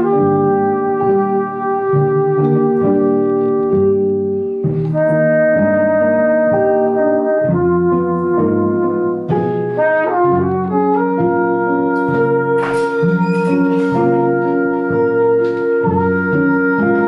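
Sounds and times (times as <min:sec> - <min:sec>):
bowed cello: 0:00.0 - 0:17.0
flugelhorn melody: 0:00.0 - 0:17.0.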